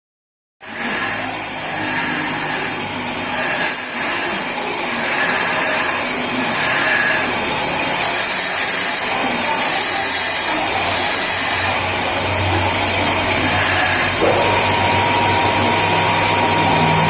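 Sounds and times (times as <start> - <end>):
boring machine whirring: 0.6 - 17.0.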